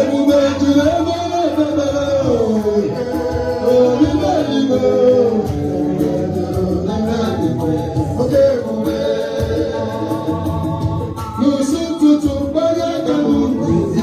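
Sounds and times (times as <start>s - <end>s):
man singing into a microphone: 0.0s - 14.0s
people singing along: 0.0s - 14.0s
steady beat: 0.0s - 14.0s.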